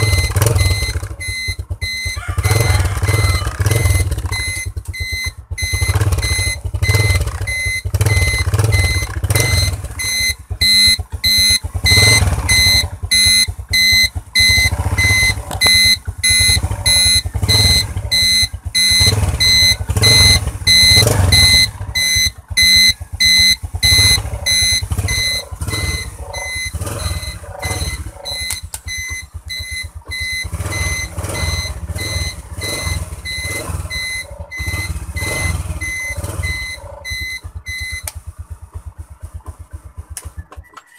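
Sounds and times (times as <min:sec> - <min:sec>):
turn-signal beeper: 0:00.0 - 0:38.1
motorcycle engine idling: 0:00.0 - 0:40.9.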